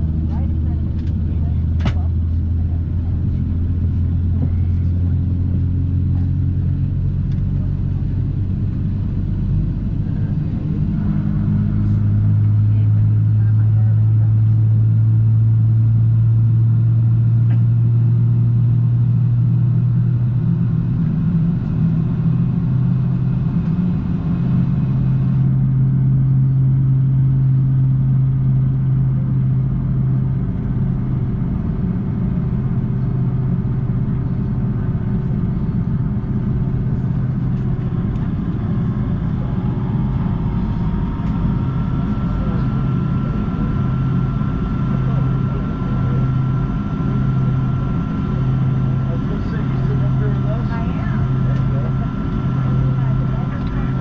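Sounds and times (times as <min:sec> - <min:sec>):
jet engines humming in cabin: 0:00.0 - 0:54.0.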